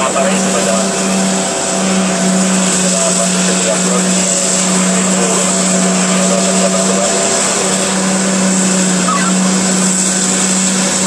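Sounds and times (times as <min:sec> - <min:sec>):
diesel engines droning: 0:00.0 - 0:11.0.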